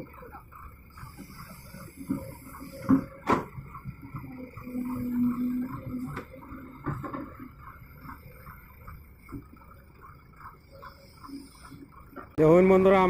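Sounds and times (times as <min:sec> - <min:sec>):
excavator engine and hydraulics: 0:00.0 - 0:13.0.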